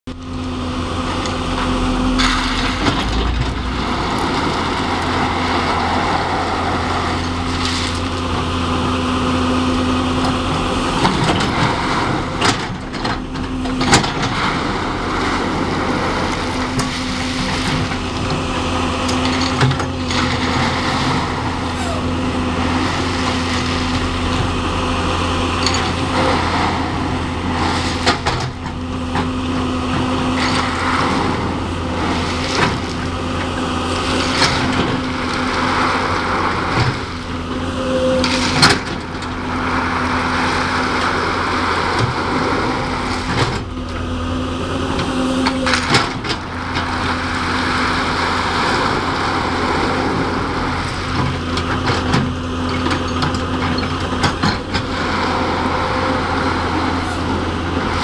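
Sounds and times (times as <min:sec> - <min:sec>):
excavator diesel engine running: 0:00.1 - 0:58.0.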